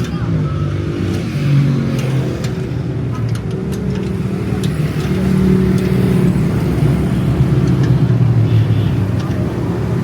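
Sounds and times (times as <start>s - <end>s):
rickshaw engine running: 0.0s - 10.0s.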